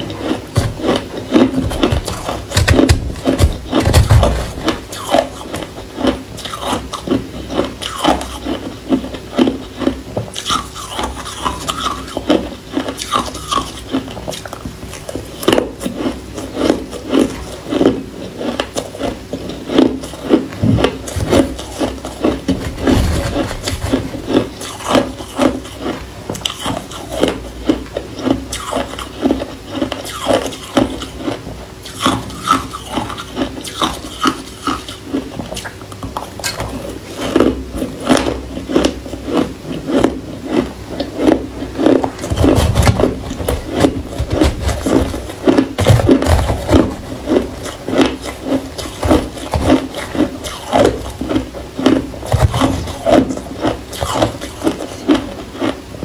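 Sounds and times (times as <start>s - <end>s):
ice crunched between teeth: 0.0s - 55.8s.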